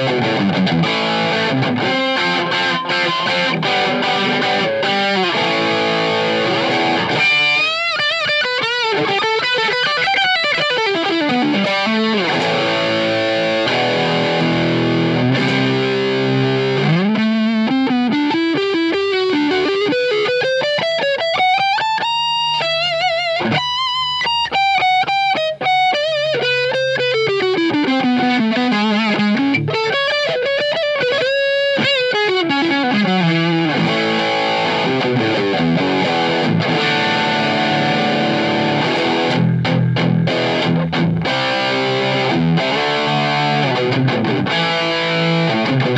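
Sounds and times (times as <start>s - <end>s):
electric guitar lead melody: 0.0s - 45.9s.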